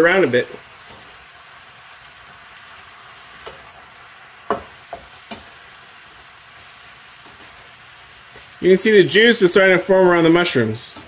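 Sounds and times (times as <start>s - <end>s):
mushrooms sizzling in oil: 0.0s - 11.0s.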